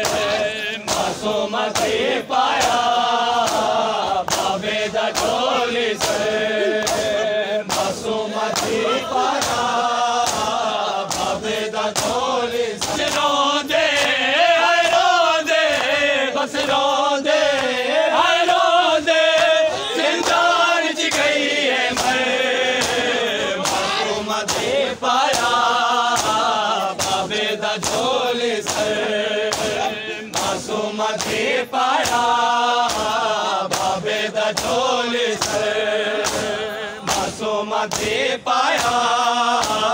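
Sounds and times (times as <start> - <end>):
hands slapping bare chests: 0.0 - 39.9
men chanting in unison: 0.0 - 39.9.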